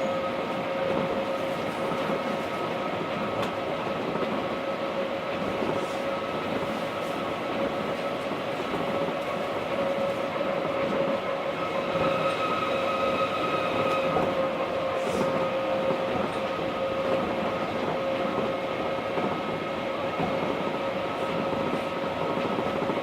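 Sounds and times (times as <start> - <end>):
monorail car rumble: 0.0 - 23.0.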